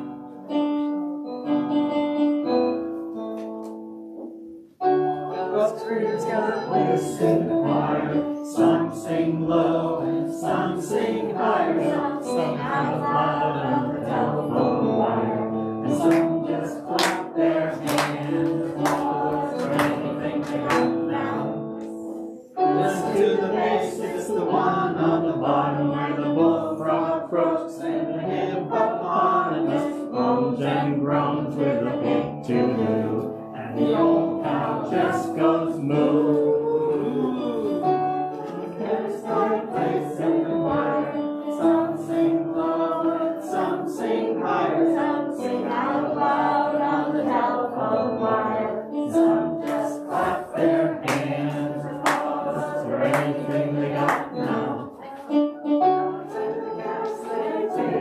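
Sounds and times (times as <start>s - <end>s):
group singing with instruments: 0.0s - 0.2s, 5.3s - 58.0s.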